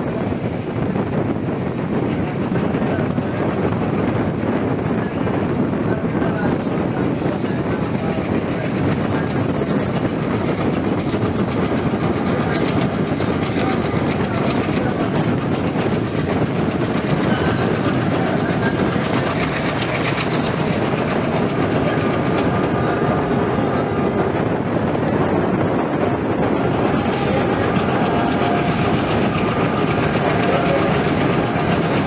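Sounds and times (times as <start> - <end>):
train clatter over track: 0.0 - 32.0
train wheels rumbling on rails: 0.0 - 32.0.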